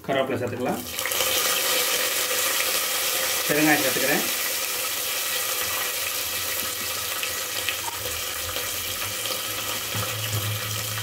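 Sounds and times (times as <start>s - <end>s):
spices sizzling in hot oil: 0.3s - 11.0s.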